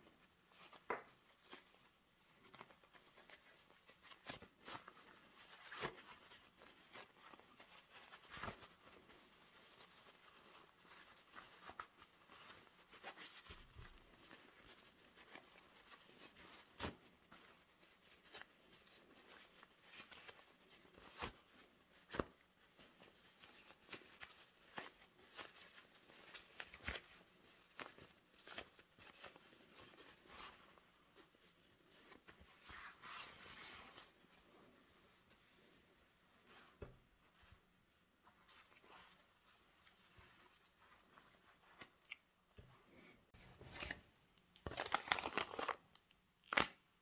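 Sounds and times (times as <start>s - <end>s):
fabric rustling: 0.0s - 45.7s.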